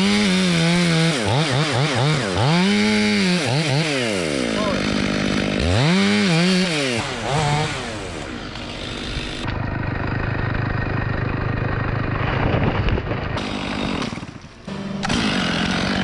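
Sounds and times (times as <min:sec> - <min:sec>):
chainsaw revving: 0:00.0 - 0:11.1, 0:12.0 - 0:16.0.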